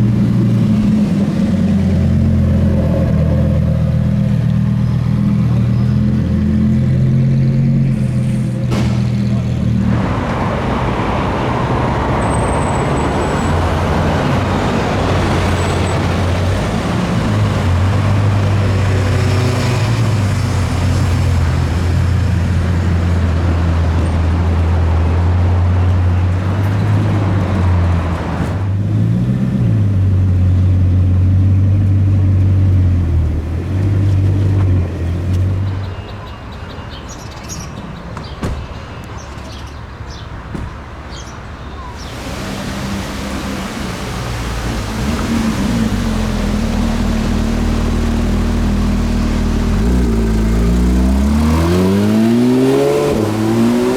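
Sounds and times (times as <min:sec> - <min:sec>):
car engine droning: 0:00.0 - 0:35.8, 0:41.8 - 0:53.9
street traffic noise: 0:00.0 - 0:53.9.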